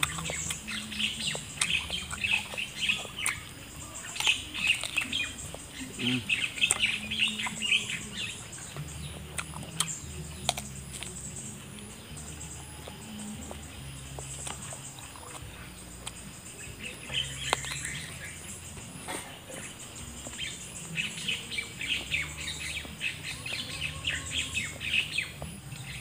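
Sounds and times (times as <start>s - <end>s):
person chewing crisp banana: 0.0s - 26.0s.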